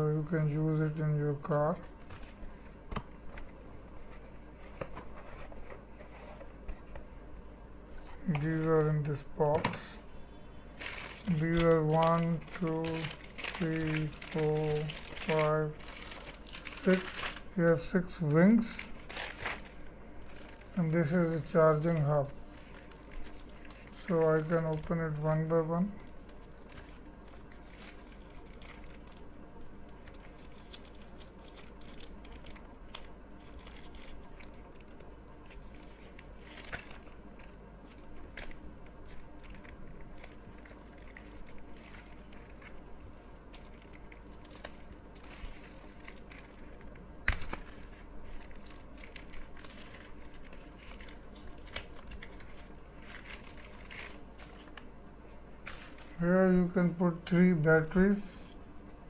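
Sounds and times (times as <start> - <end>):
packaging crinkling: 10.6 - 58.3.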